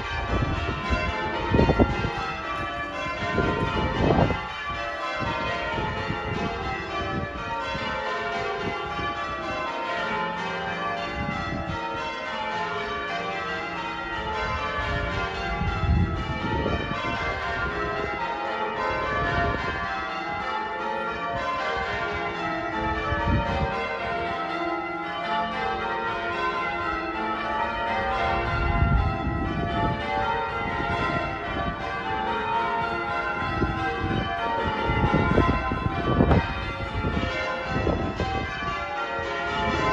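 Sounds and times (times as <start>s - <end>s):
cathedral bells ringing: 0.0s - 39.9s.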